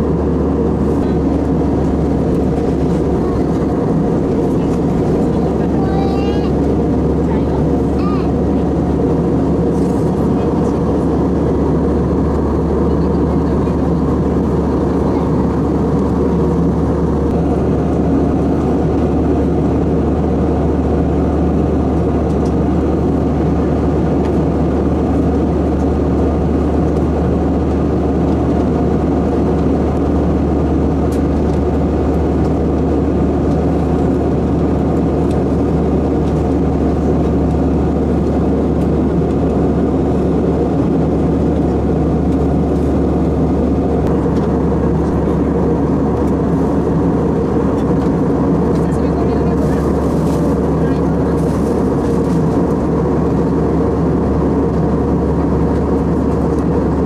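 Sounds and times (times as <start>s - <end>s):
jet engine drone in airplane cabin: 0.0s - 57.0s
rushing airflow: 0.0s - 57.0s.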